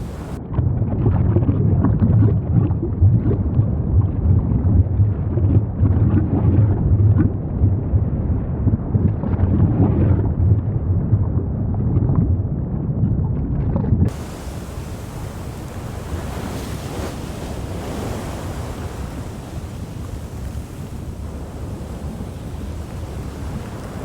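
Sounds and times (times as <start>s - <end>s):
deep volcanic rumble: 0.0s - 0.4s, 2.8s - 24.0s.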